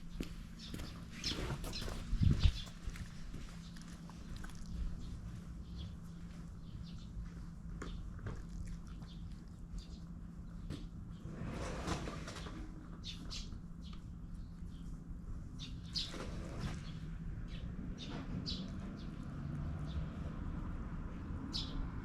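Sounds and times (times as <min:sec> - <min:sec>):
small birds chirping: 0:00.0 - 0:11.3, 0:12.8 - 0:20.5, 0:21.1 - 0:21.9
steady low hum: 0:00.0 - 0:18.1.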